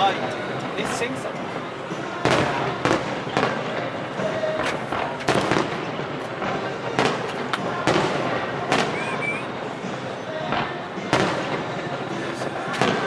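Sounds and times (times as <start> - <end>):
fireworks bursting with rumbling echo: 0.0 - 13.0.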